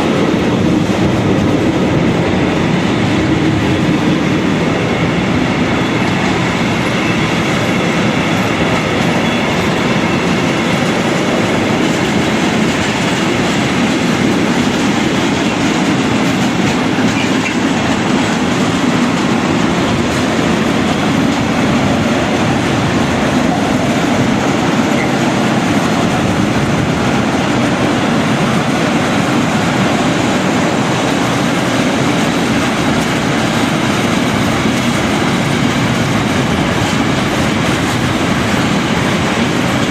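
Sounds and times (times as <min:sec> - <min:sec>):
freight train rolling past: 0:00.0 - 0:39.9
wheels clicking over rail joints: 0:03.1 - 0:39.9.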